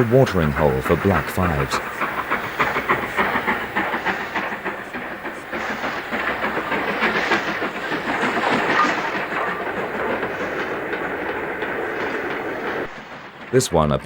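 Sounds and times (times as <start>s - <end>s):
steady rushing hiss: 0.0s - 14.0s
steam train running at speed: 0.0s - 14.0s
wheels clattering over rail joints: 0.0s - 14.0s.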